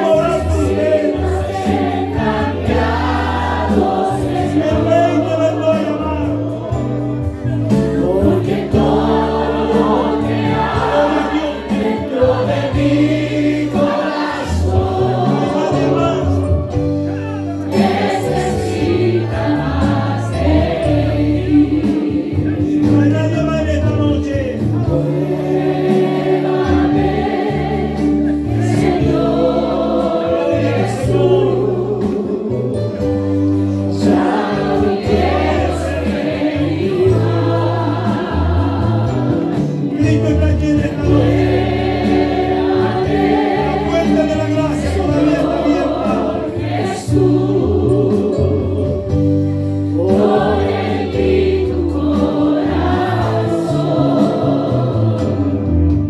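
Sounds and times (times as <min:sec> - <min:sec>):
group singing worship song: 0:00.0 - 0:56.0
instrumental accompaniment: 0:00.0 - 0:56.0.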